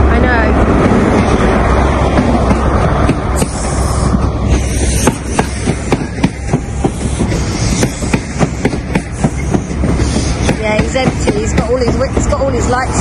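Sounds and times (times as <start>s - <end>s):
train rumble: 0.0s - 13.0s
train wheels clicking over rail joints: 0.8s - 13.0s.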